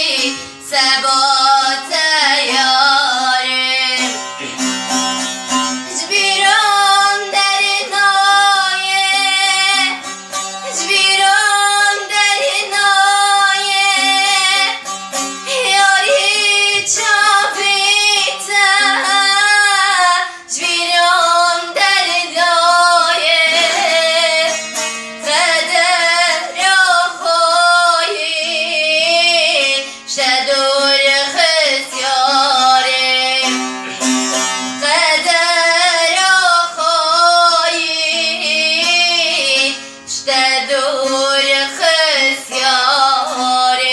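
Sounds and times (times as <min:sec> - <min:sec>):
woman singing: 0:00.0 - 0:04.2, 0:05.8 - 0:33.7, 0:34.6 - 0:43.9
instrumental accompaniment: 0:00.0 - 0:43.9.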